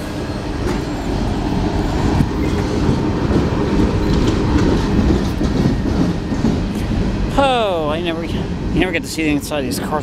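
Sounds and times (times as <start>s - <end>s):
train clicks and knocks: 0.0s - 10.0s
train wheels rumbling on rails: 0.0s - 10.0s.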